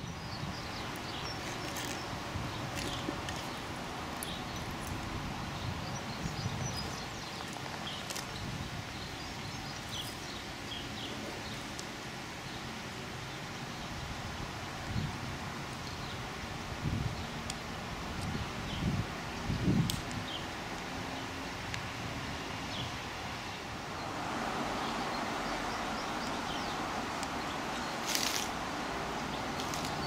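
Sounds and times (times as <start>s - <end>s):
leaves rustling: 0.0s - 30.0s.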